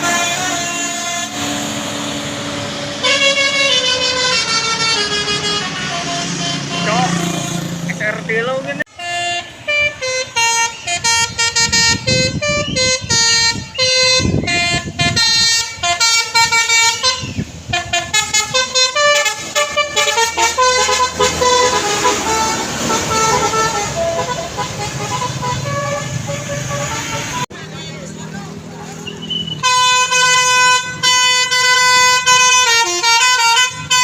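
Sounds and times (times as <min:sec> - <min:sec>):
multi-tone musical air horn: 0:00.0 - 0:02.3, 0:03.0 - 0:07.3, 0:08.9 - 0:27.5, 0:29.4 - 0:34.0.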